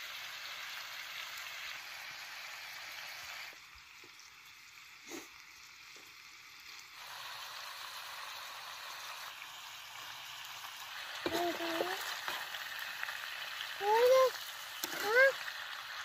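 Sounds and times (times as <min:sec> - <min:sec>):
liver sizzling in a pan: 0:00.0 - 0:16.0.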